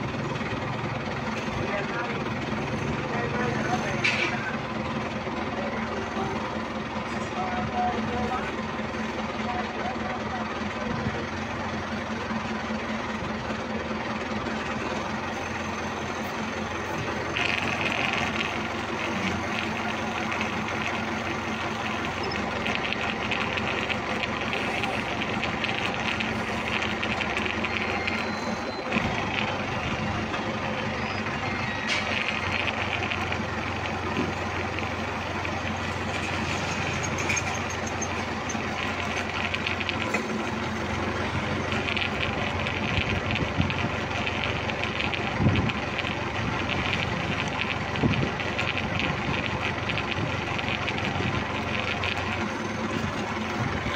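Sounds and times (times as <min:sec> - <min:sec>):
forklift engine running: 0:00.0 - 0:53.9.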